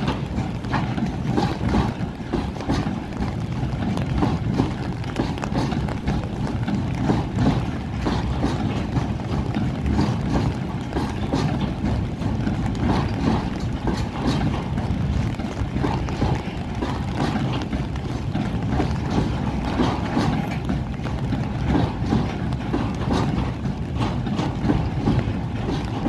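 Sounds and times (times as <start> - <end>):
freight train rumbling: 0.0 - 26.0
wheels clattering over rail joints: 0.0 - 26.0.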